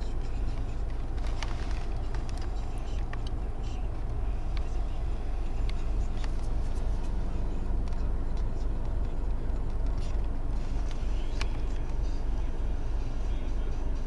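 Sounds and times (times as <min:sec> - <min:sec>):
diesel engines idling: 0:00.0 - 0:14.0.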